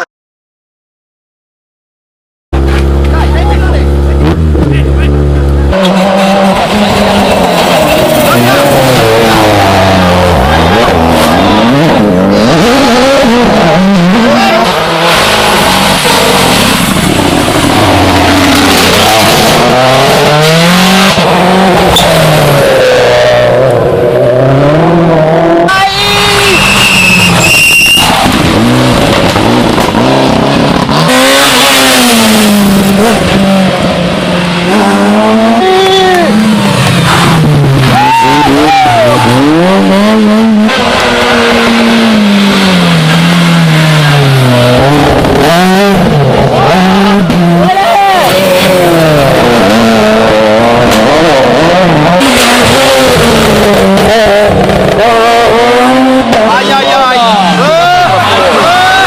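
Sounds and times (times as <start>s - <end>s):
car engine revving hard: 2.6s - 25.7s, 26.4s - 59.0s.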